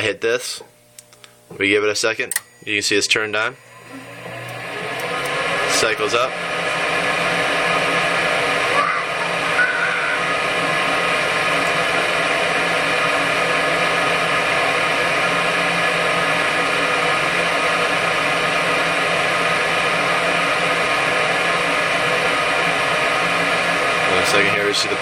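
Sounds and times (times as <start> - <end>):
fan motor whirring: 0.0 - 25.0.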